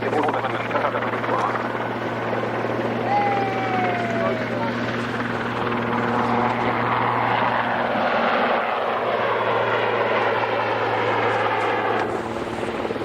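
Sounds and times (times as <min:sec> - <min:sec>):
helicopter rotor drone: 0:00.0 - 0:13.0.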